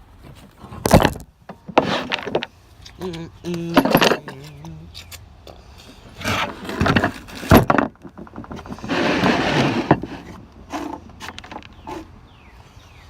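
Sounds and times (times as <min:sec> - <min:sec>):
objects knocking and scraping: 0:00.0 - 0:04.6, 0:06.0 - 0:12.1.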